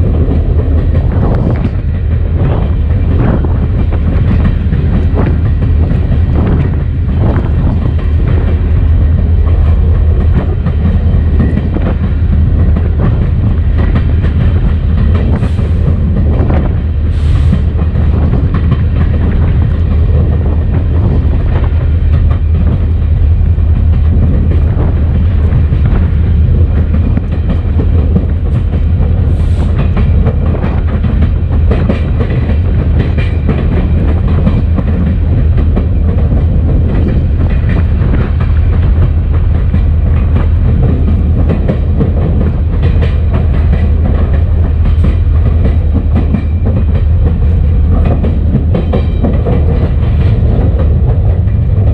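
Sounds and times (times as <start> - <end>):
diesel locomotive engine drone: 0.0 - 51.9
train rolling noise: 0.0 - 51.9.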